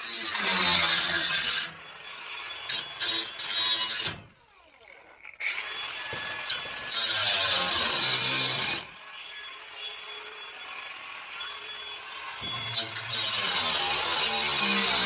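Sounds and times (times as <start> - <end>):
power tool on sheet metal: 0.0 - 15.0.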